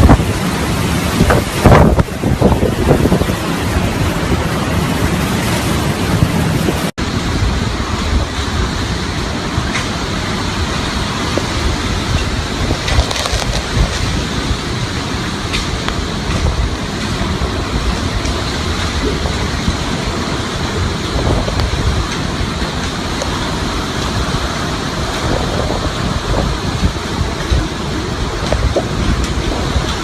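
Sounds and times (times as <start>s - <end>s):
strong wind blowing: 0.0s - 30.0s
wind buffeting microphone: 0.0s - 30.0s.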